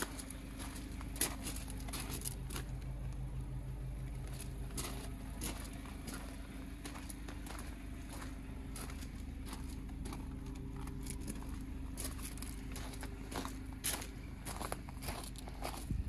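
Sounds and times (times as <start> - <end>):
footsteps on gravel: 0.0 - 16.0
steady low hum: 0.0 - 16.0.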